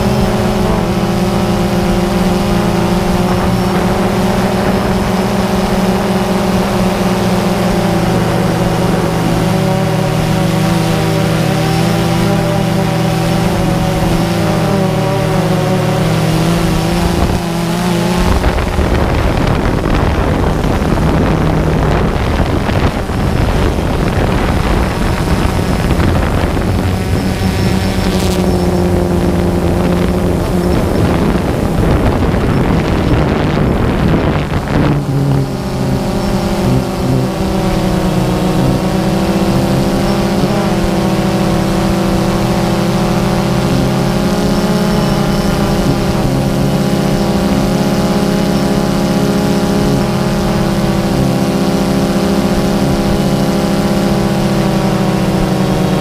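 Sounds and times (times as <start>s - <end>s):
drone propellers humming: 0.0s - 56.0s
wind noise: 0.0s - 56.0s.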